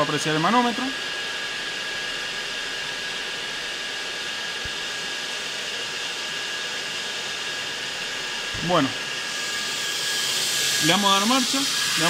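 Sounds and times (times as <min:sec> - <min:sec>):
cooling fan whine: 0:00.0 - 0:12.0.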